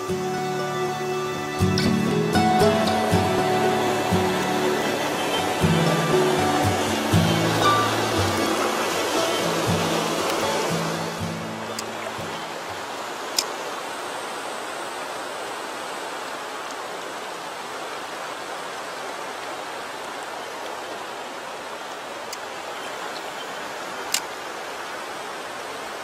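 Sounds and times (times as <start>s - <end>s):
stream running over rocks: 0.0s - 26.0s.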